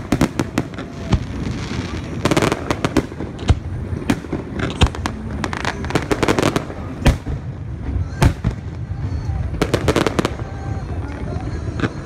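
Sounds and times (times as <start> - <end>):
firework bangs: 0.0 - 12.0
firework crackles: 0.0 - 12.0.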